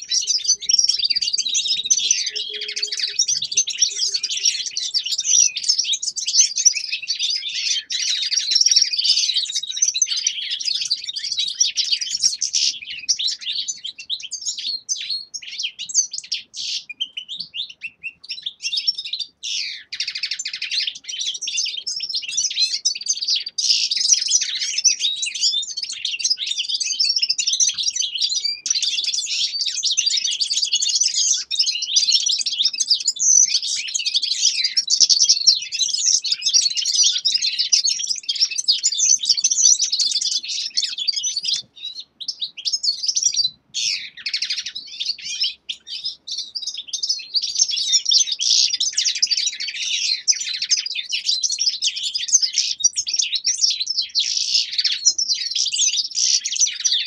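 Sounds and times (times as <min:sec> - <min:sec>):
finches twittering: 0:00.0 - 0:50.8.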